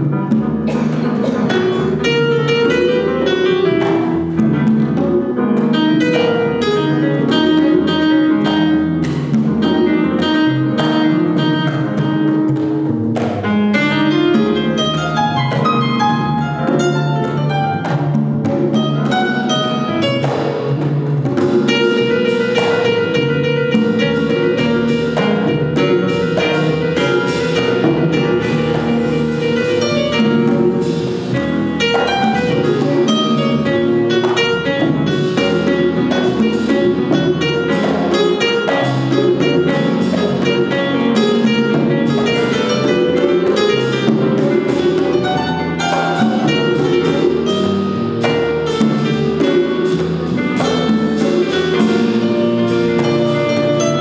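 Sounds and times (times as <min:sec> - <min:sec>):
congas: 0:00.0 - 0:54.0
drum kit: 0:00.0 - 0:54.0
plucked double bass: 0:00.0 - 0:54.0
stage piano: 0:00.0 - 0:54.0.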